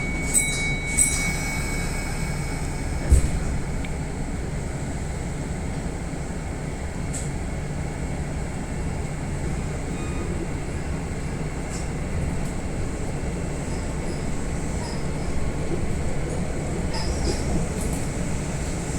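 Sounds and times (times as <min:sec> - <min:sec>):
electric train rumbling: 0:00.0 - 0:18.9.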